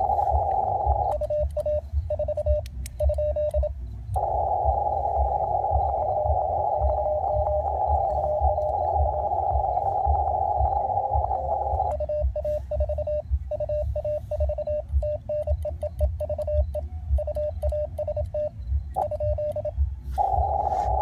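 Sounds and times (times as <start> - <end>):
radio band hiss: 0.0 - 2.6, 3.2 - 15.6, 18.1 - 21.0
low rumble: 0.0 - 15.6, 16.2 - 21.0
morse code beeping: 0.0 - 21.0.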